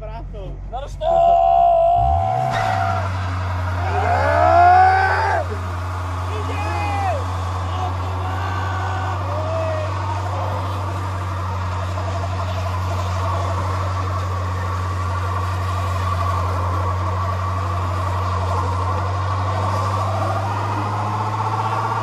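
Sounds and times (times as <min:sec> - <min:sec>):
car engine at high revs: 0:01.8 - 0:22.0.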